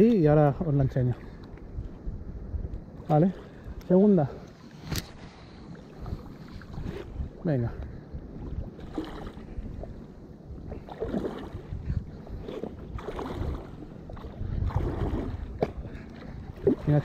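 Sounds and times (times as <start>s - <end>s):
water sloshing against float tube: 3.0s - 17.0s.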